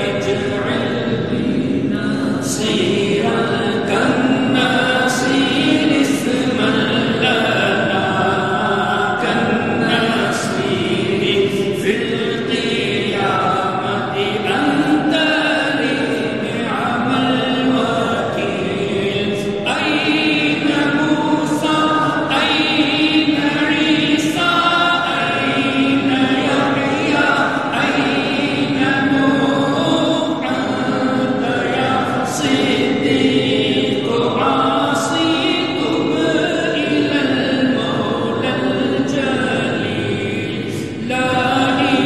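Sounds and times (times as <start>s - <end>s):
voices chanting together: 0.0s - 42.0s.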